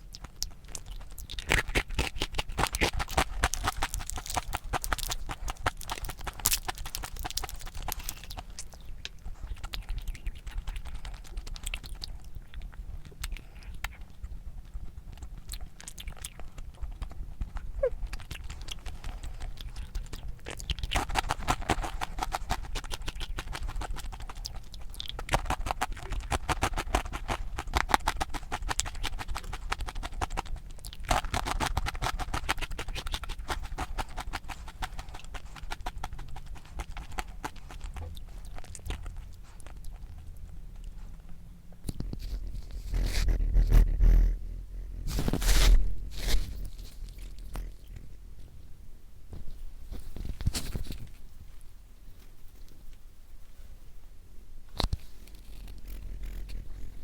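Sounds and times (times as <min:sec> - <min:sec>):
crunchy chewing: 0:00.0 - 0:53.8, 0:54.6 - 0:57.0.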